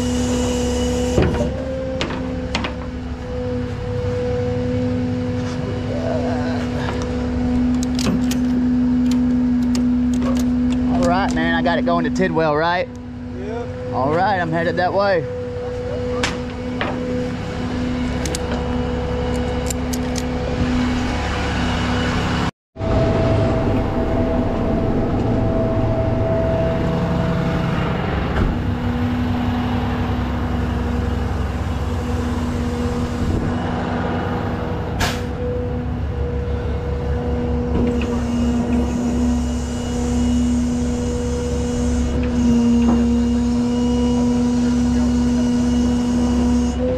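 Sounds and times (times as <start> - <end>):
diesel truck engine drone: 0.0 - 46.9.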